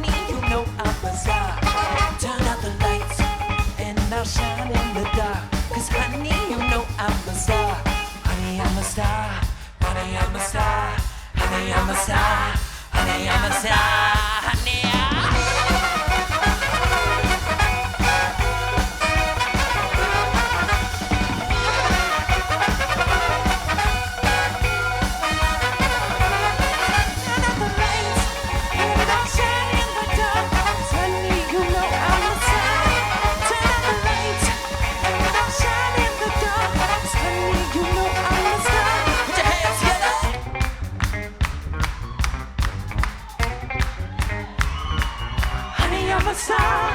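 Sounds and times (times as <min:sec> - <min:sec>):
horns: 0:00.0 - 0:41.3
live soul band playing: 0:00.0 - 0:46.9.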